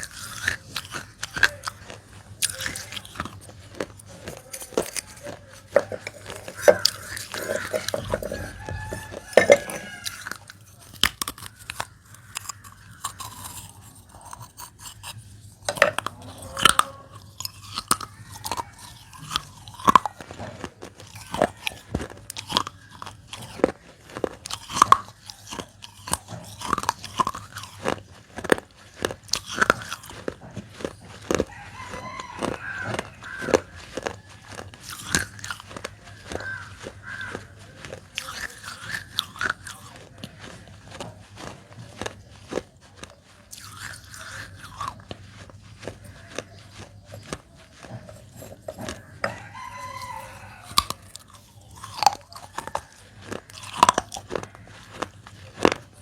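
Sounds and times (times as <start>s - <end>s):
dry clay being chewed: 0.0s - 56.0s.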